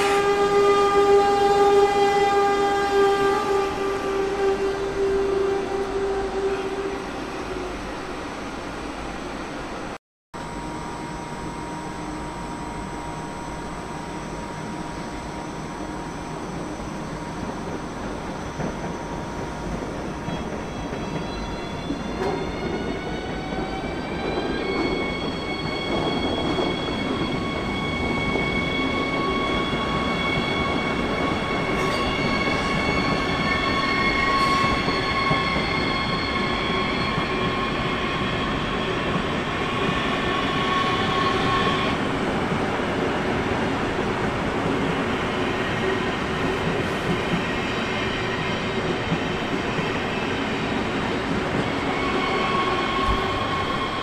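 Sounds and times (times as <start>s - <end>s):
train rumbling by: 10.6s - 54.0s.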